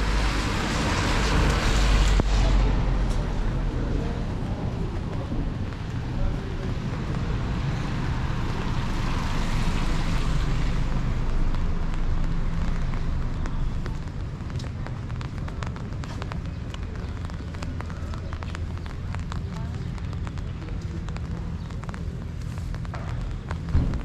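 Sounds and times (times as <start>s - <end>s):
car tyres hissing on wet street: 0.0s - 24.0s
steady low rumble: 0.0s - 24.0s.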